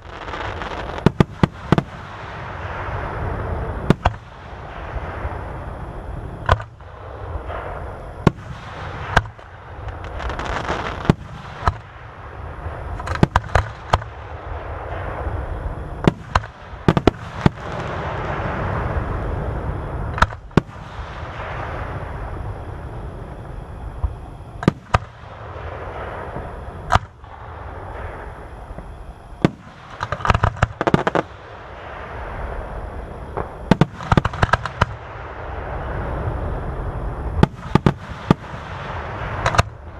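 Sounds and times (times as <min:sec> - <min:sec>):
rapid firework bangs: 0:00.0 - 0:05.7, 0:06.3 - 0:19.1, 0:24.0 - 0:32.7, 0:33.3 - 0:35.8, 0:37.4 - 0:39.9
fireworks booming: 0:00.0 - 0:39.9
low rumble and crackle: 0:00.0 - 0:39.9.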